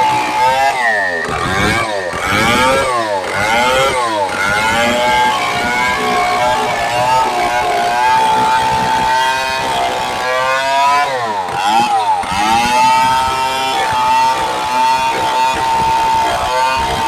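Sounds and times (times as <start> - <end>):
chainsaw running at high revs: 0.0 - 17.0.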